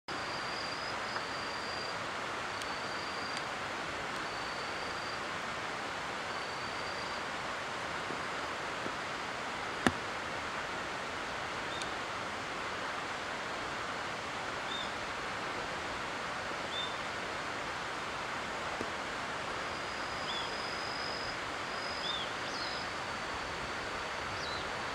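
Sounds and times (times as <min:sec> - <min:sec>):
steady outdoor hiss: 0:00.1 - 0:24.9.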